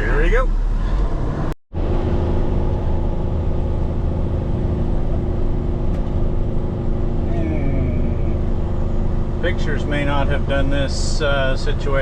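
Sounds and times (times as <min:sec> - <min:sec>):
tow truck diesel engine running: 0:01.8 - 0:12.0.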